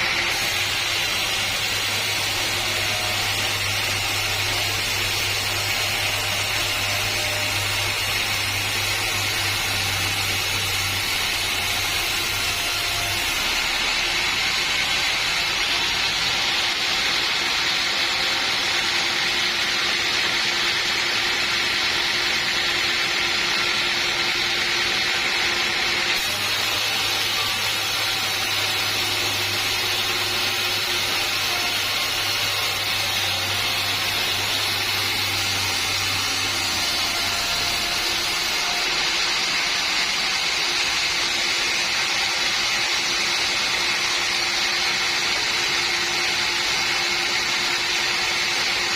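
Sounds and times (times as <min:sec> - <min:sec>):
sawmill saw whining: 0:00.0 - 0:48.9.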